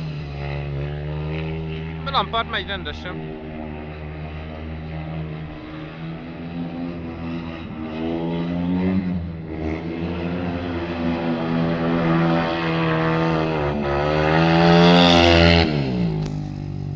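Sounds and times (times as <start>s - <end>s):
motorcycle engines racing: 0.0s - 16.9s.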